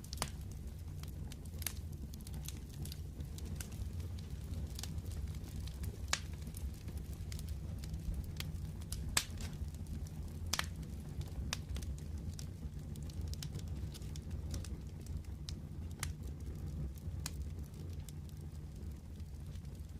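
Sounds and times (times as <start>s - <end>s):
sharp pops from fire: 0.0s - 18.4s
wood fire crackling: 0.0s - 19.9s.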